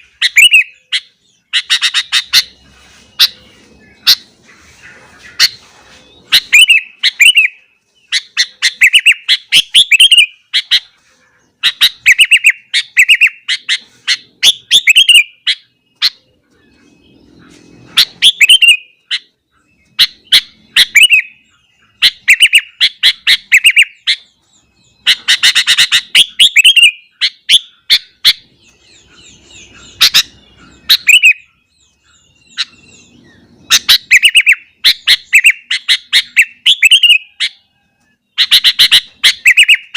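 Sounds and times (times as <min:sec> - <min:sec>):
bird singing chattering notes: 0:00.0 - 0:37.6.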